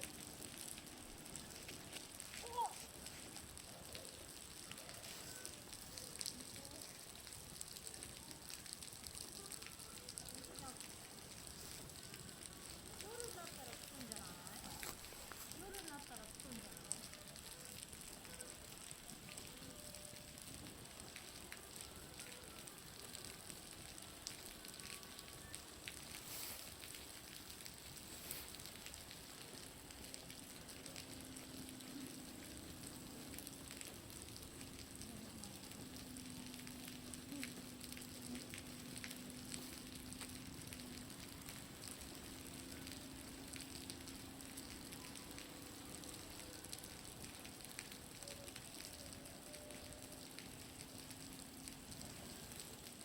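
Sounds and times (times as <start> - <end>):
meltwater dripping off a roof: 0.0 - 53.0.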